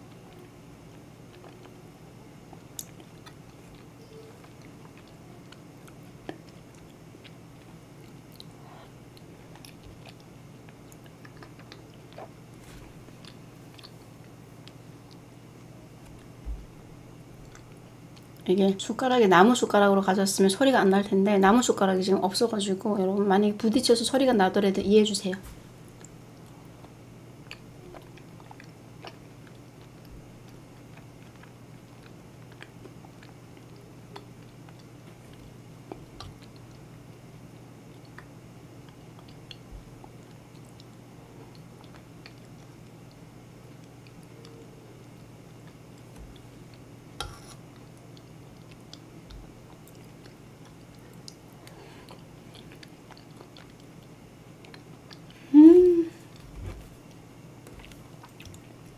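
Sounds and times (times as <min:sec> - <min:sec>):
chewing and mouth sounds: 0:00.0 - 0:16.4, 0:17.4 - 0:18.4, 0:25.8 - 0:55.4, 0:56.2 - 0:58.9
faint low hum: 0:00.0 - 0:58.9.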